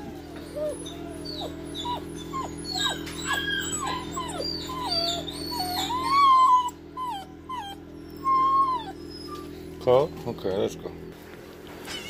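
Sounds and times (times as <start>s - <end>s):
puppy whining: 0.0s - 10.8s.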